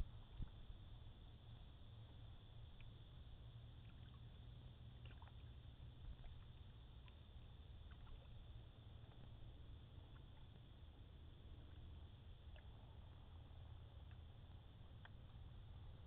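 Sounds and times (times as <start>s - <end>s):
faint paddle drips and ticks: 0.0s - 16.0s
low steady rumble: 0.0s - 16.0s.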